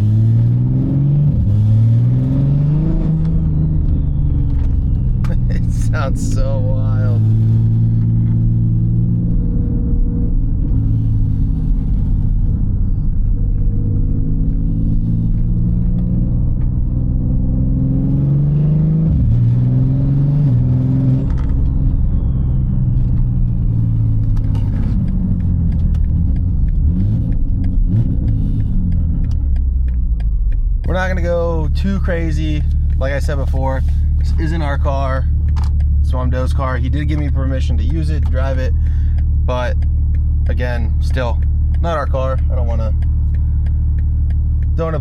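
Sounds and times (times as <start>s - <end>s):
car engine running in cabin: 0.0s - 45.0s.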